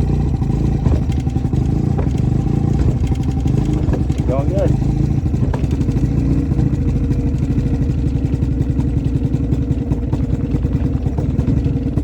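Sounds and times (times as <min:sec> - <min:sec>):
outboard motor sputtering: 0:00.0 - 0:12.0.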